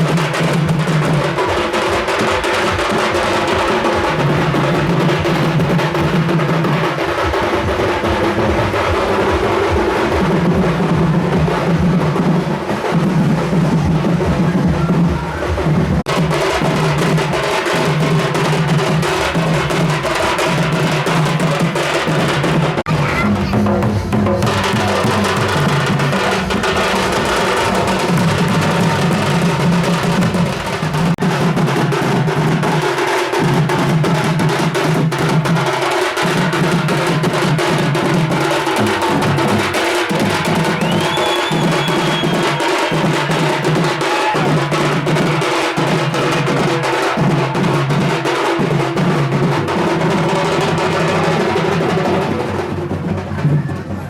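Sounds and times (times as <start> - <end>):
fast percussion drumming: 0.0 - 54.0.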